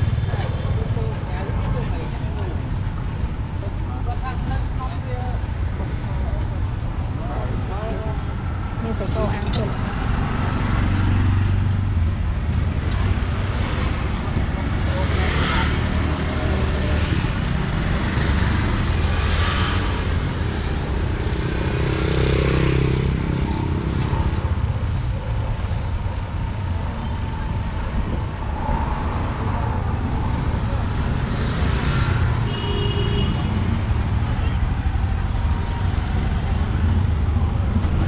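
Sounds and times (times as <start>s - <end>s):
vehicles passing: 0.0s - 38.0s.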